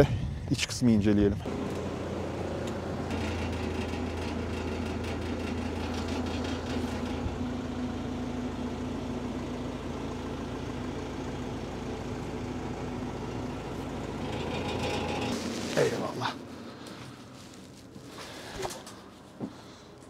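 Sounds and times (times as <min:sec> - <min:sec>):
low engine hum: 0:01.3 - 0:20.0.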